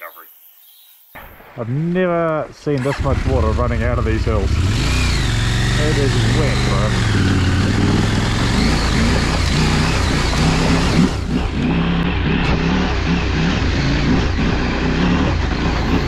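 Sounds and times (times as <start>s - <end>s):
motorcycle engine revving: 2.8s - 16.0s.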